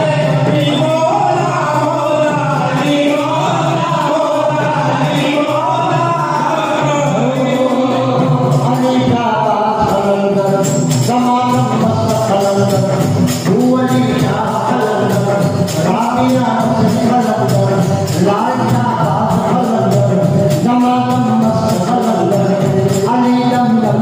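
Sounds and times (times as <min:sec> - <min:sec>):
frame drums beating: 0:00.0 - 0:24.0
men singing into microphones: 0:00.0 - 0:24.0.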